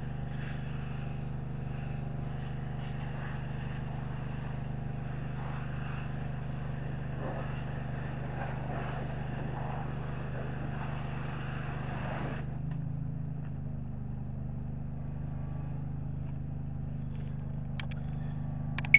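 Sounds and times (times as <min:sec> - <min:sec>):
truck engine drone: 0:00.0 - 0:18.9.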